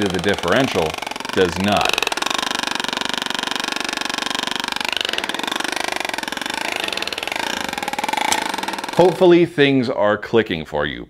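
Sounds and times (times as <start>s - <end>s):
driveshaft rig rattling: 0.0s - 9.5s.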